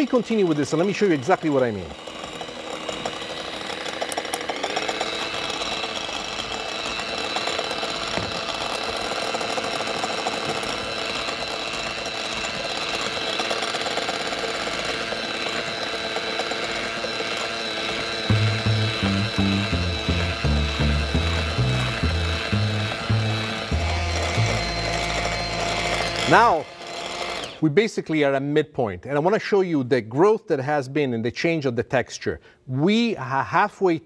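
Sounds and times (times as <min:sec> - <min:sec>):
immersion blender motor whining: 0:00.0 - 0:27.7.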